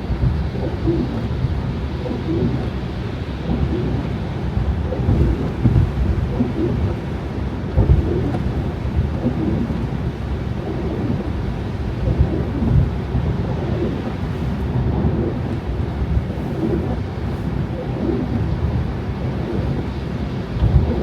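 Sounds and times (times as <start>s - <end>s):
tyre and wind noise: 0.0s - 21.0s
low thumps: 0.2s - 19.9s.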